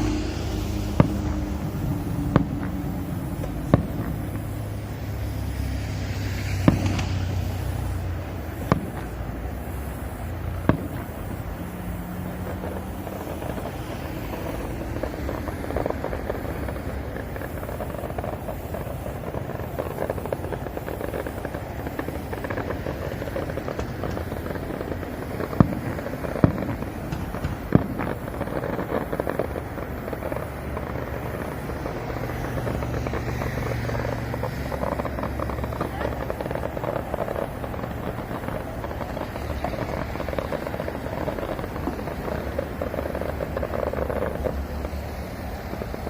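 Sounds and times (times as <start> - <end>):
fireworks bangs: 0.0 - 46.0
fireworks crackling: 0.0 - 46.0.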